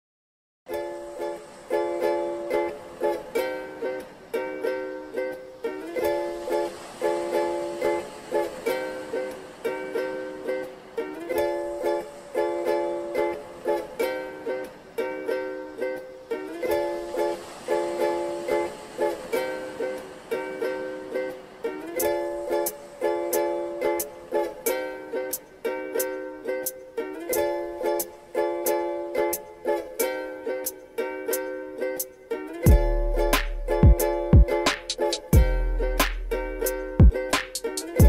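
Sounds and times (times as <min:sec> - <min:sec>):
ukulele strumming chords: 0:00.7 - 0:38.0.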